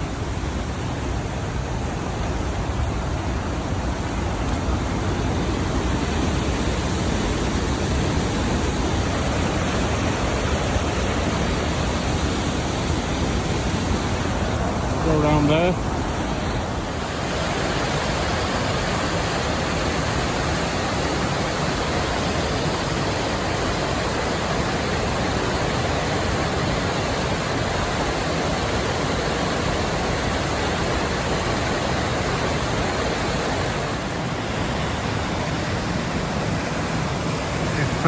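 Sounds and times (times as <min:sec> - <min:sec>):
waterfall and river rushing: 0:00.0 - 0:38.0.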